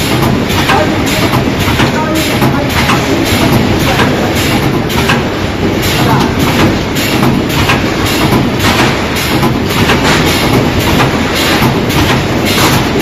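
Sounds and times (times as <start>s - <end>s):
loud mechanical hum: 0.0s - 13.0s
rhythmic machine clacking: 0.0s - 13.0s.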